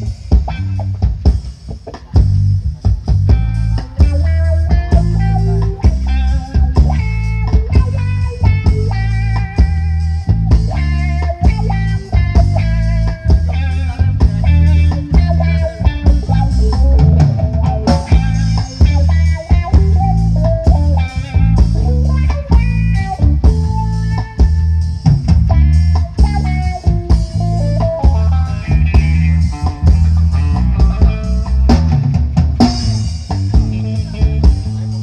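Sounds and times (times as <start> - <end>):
loud rock music over a sound system: 0.0 - 35.0.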